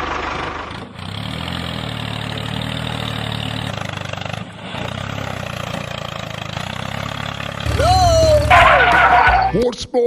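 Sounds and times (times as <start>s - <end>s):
tractor engine running: 0.0s - 9.7s.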